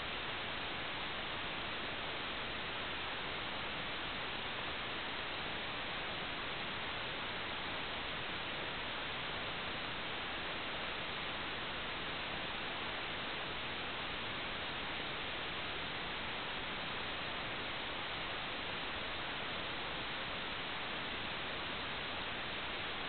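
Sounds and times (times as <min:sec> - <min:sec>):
static hiss: 0:00.0 - 0:23.0.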